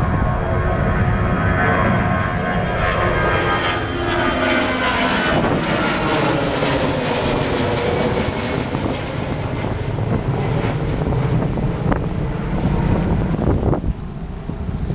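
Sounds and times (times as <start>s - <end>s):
jet engine whine and rumble: 0.0s - 14.9s.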